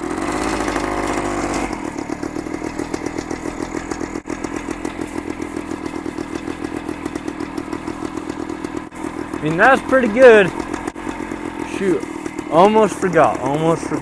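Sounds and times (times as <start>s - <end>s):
two-stroke engine idling: 0.0s - 14.0s.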